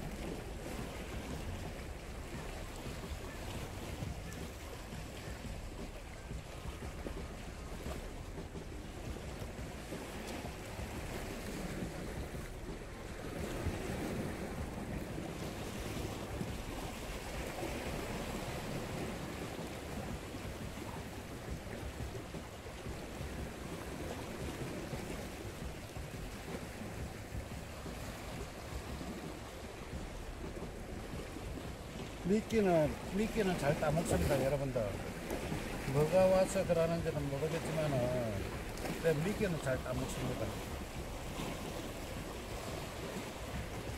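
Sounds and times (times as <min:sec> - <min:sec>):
sea water washing on rocks: 0:00.0 - 0:43.9
wind on microphone: 0:00.0 - 0:43.9.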